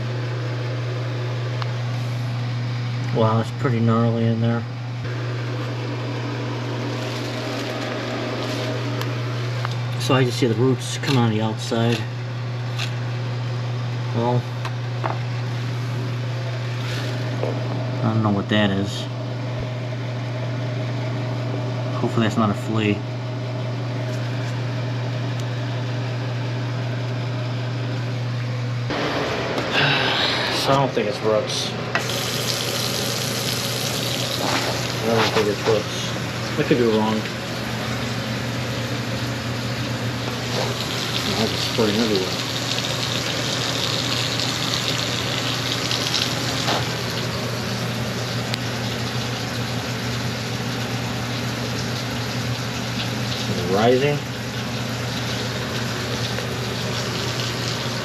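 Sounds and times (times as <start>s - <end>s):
drain-cleaning machine motor humming: 0.0s - 58.0s.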